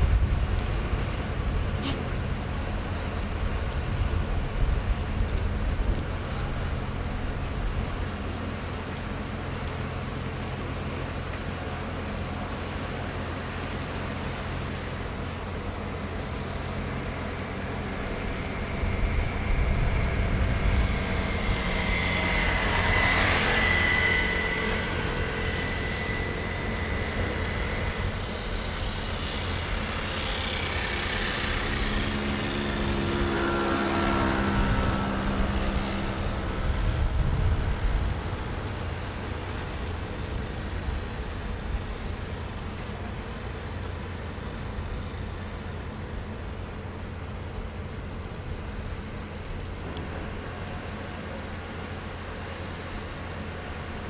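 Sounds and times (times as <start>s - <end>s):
faint whining tones: 0.0s - 54.0s
low rumble of engines: 0.0s - 54.0s.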